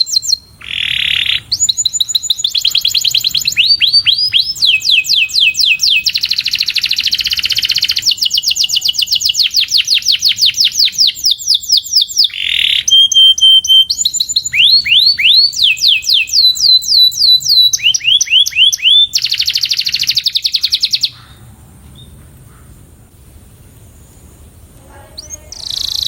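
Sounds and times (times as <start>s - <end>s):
canary singing: 0.0s - 22.8s, 23.9s - 26.0s.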